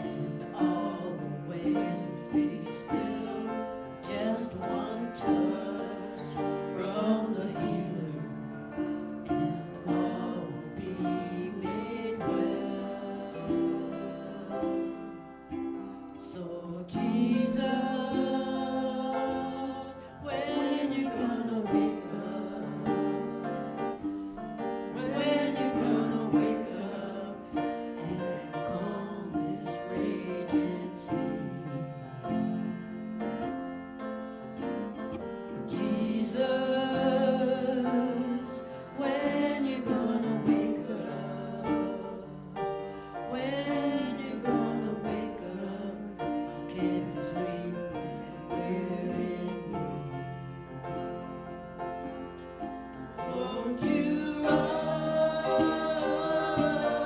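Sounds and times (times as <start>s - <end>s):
instrumental accompaniment: 0.0s - 57.0s
people singing worship song: 0.0s - 57.0s.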